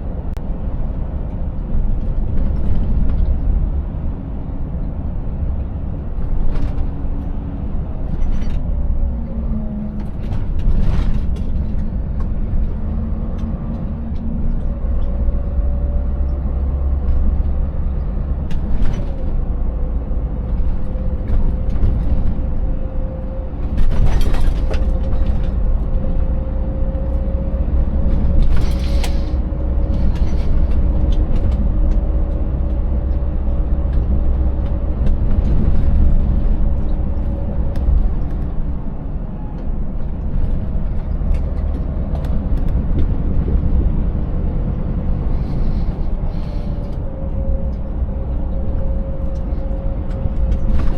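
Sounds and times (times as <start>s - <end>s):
diesel truck engine rumble: 0.0s - 50.9s.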